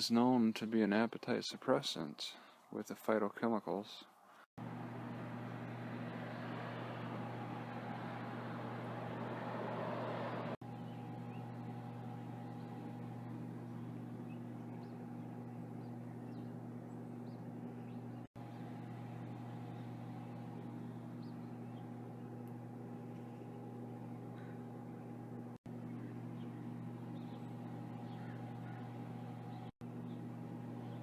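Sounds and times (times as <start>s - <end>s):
low mechanical hum: 4.3s - 31.0s.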